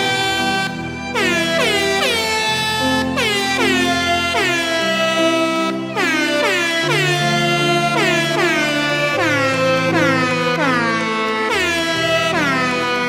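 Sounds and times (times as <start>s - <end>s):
drooping air horn blasts: 0.0s - 13.0s
musical backing with low notes: 0.0s - 13.0s.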